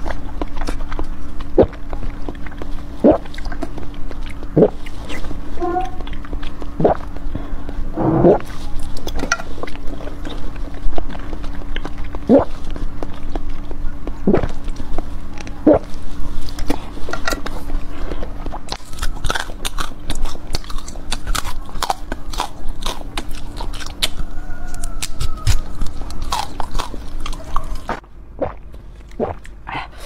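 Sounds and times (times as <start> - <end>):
biting and chewing sweets: 0.0 - 30.0
steady low hum: 0.0 - 30.0.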